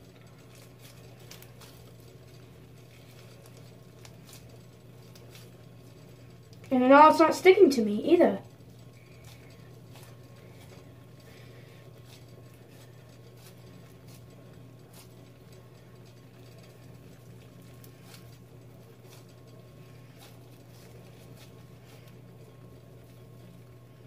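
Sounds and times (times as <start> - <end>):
slime squishing: 0.0 - 6.9, 8.9 - 23.8
steady low hum: 0.0 - 24.0.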